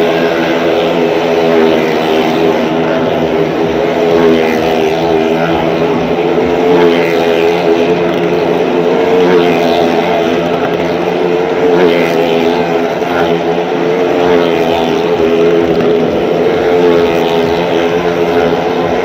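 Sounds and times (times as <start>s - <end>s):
motorcycle engines at high revs: 0.0s - 19.0s.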